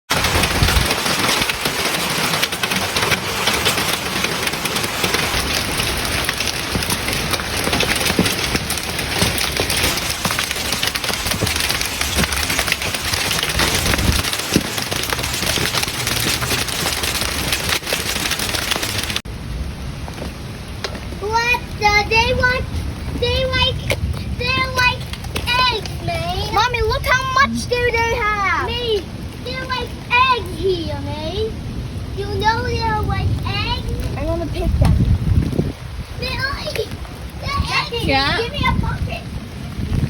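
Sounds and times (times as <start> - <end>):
hailstones clattering: 0.1 - 40.0.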